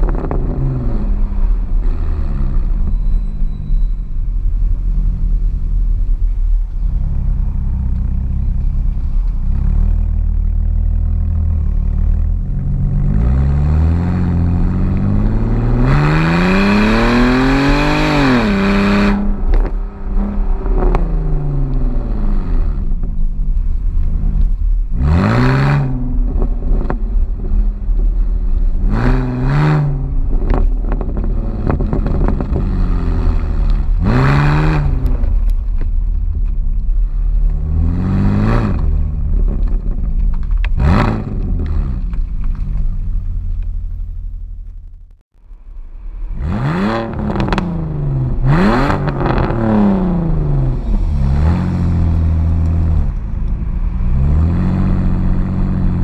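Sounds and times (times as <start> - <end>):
exhaust pops: 0.0 - 3.4, 4.9 - 56.0
car exhaust revving: 0.0 - 56.0.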